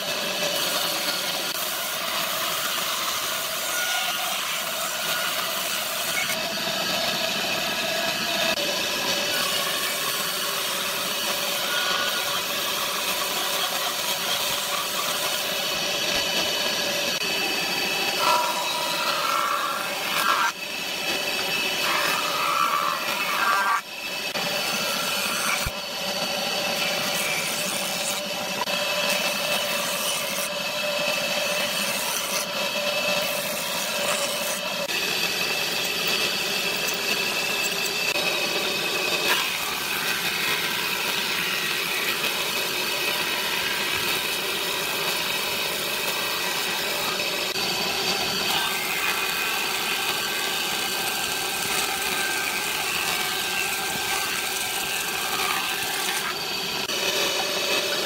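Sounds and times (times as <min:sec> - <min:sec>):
power tool motor whine on wood: 0:00.0 - 0:58.0.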